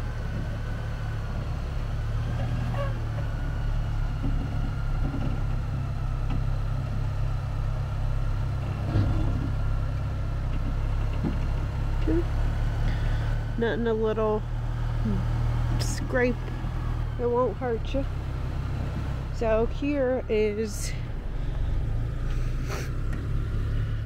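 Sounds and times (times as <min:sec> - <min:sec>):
pickup engine low rumble: 0:00.0 - 0:24.0.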